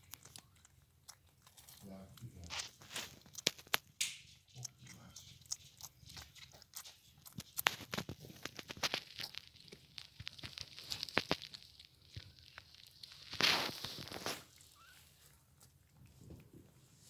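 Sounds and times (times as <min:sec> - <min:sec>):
kitten crunching food: 0:00.0 - 0:17.0.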